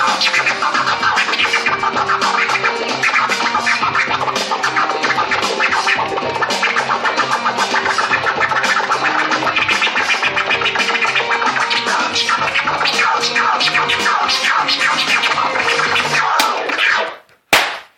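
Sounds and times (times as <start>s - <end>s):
backing beat with bass line: 0.0s - 17.0s
turntable record scratching: 0.0s - 17.9s.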